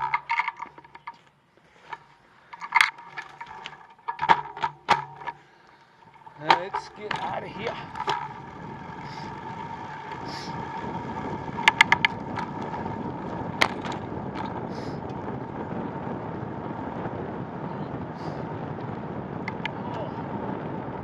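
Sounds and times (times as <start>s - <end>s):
sharp bicycle clicks: 0.0s - 1.2s, 1.8s - 15.7s, 18.2s - 20.8s
bicycle rolling and wind noise: 0.0s - 21.0s.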